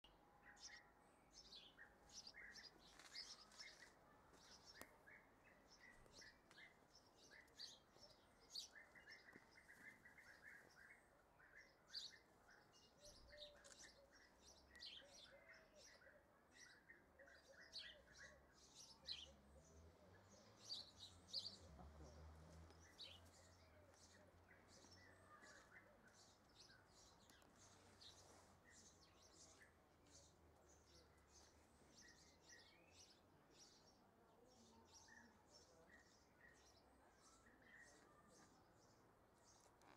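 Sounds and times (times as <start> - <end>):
bird chirps and calls: 0.4 - 39.9.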